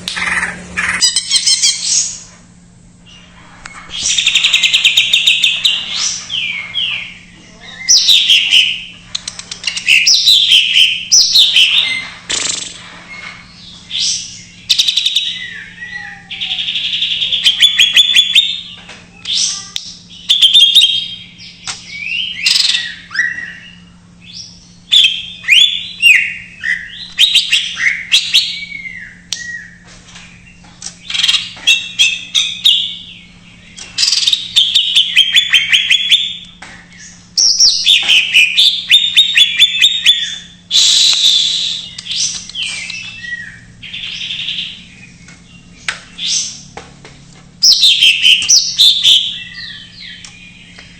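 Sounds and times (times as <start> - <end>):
bird singing varied song: 3.1 - 46.8, 47.6 - 50.9.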